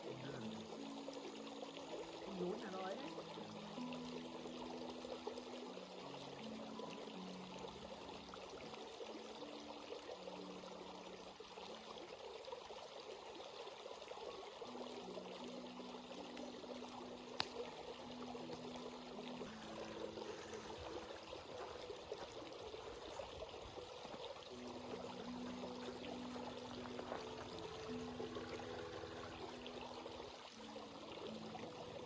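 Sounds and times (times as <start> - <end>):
stream water flowing: 0.0 - 32.0.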